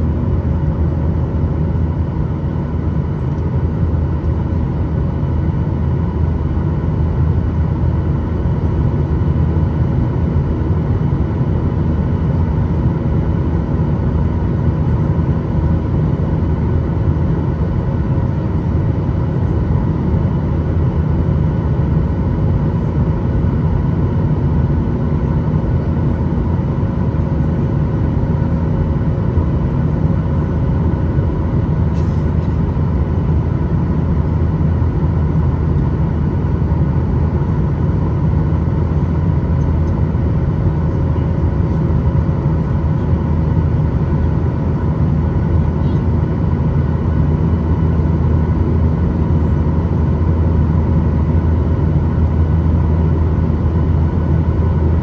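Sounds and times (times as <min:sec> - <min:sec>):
aircraft cabin rumble: 0:00.0 - 0:55.0.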